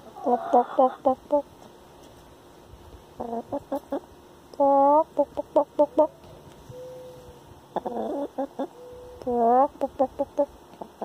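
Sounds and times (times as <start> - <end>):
hen clucking: 0.0 - 1.7, 3.1 - 11.0.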